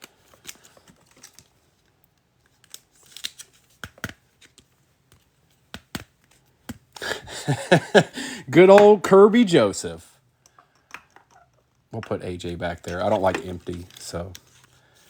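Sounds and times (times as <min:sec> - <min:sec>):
cards rustling: 0:00.0 - 0:09.8, 0:12.0 - 0:15.0.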